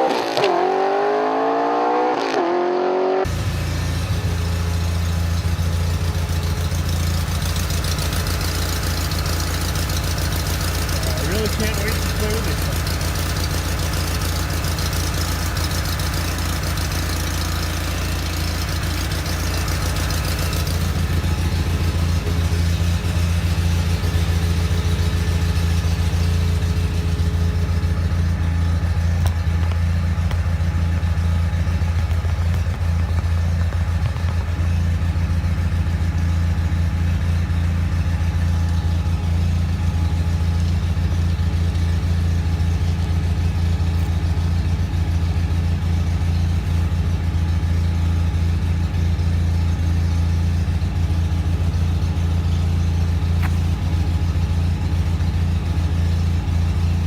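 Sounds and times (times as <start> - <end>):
garden tractor engine running: 3.3 - 57.0.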